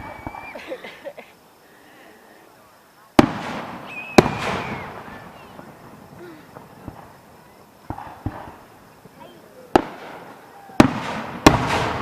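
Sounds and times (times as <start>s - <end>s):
fireworks booming: 0.0s - 1.2s, 3.0s - 12.0s.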